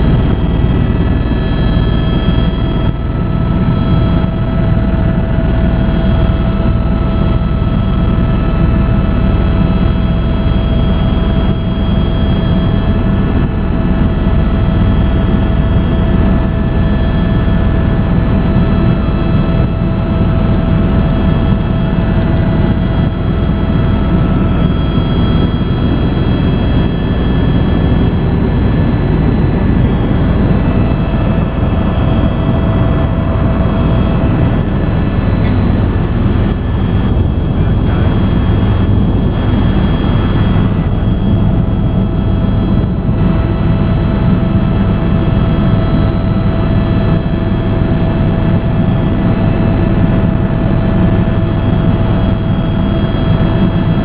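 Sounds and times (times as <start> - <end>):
helicopter rotor and engine rumble: 0.0 - 54.0
turbine whine: 0.0 - 54.0.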